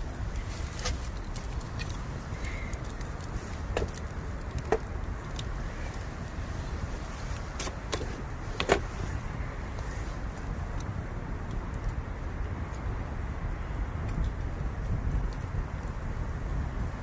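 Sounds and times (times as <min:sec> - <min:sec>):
bamboo crackling and popping: 0:00.0 - 0:17.0
low rumble of fire: 0:00.0 - 0:17.0.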